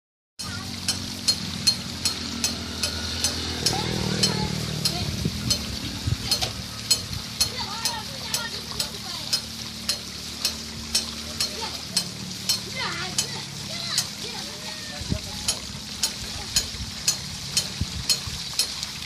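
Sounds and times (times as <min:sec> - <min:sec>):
running water hiss: 0:00.4 - 0:19.0
wooden water wheel clacking: 0:00.4 - 0:19.0.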